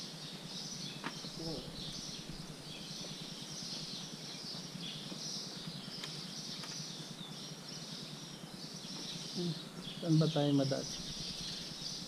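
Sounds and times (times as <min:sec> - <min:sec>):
low even hum: 0:00.0 - 0:12.0.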